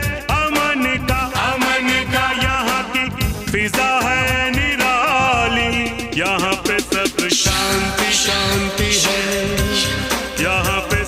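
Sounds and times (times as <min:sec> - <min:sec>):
film-style song over a beat: 0:00.0 - 0:11.0.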